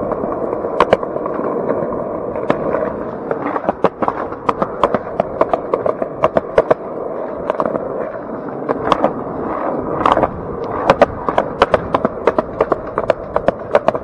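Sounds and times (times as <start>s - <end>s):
skateboard wheels rolling on concrete: 0.0s - 14.0s
wheels clacking over joints: 0.0s - 14.0s.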